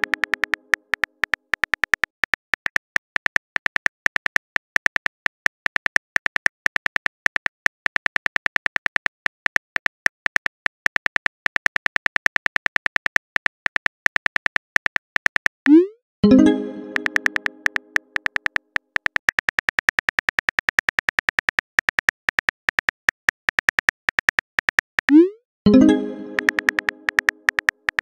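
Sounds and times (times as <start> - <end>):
keyboard typing clicks: 0.0 - 23.0, 23.6 - 28.0.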